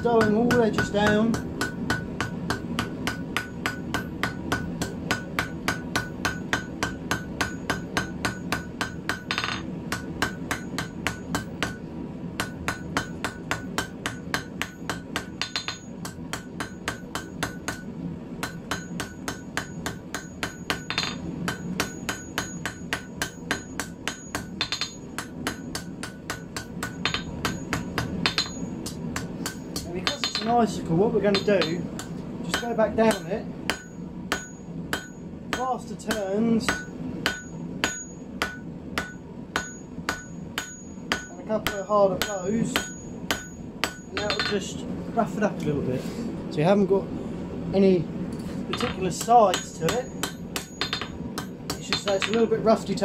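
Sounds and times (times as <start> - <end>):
hammer tapping steel on anvil: 0.0 - 44.8, 48.7 - 53.0
anvil ringing: 0.2 - 11.8, 12.4 - 44.7, 48.7 - 52.6.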